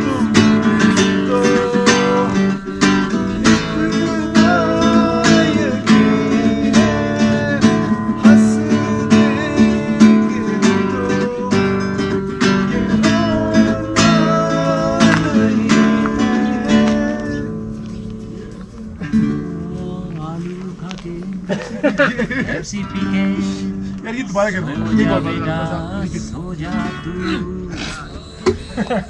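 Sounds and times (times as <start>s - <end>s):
strummed acoustic guitar music: 0.0s - 29.0s.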